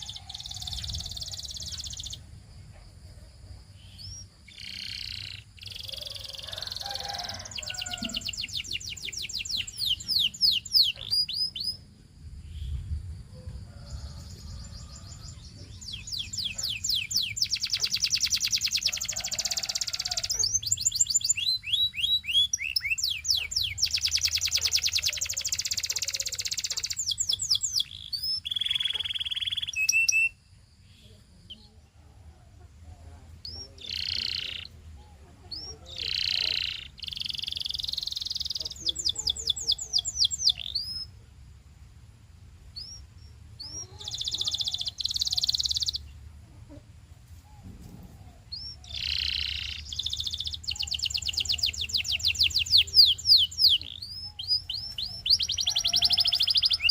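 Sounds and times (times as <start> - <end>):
canary singing trills: 0.0 - 2.4, 3.7 - 12.8, 13.7 - 31.9, 32.5 - 41.2, 42.7 - 46.8, 47.6 - 56.9.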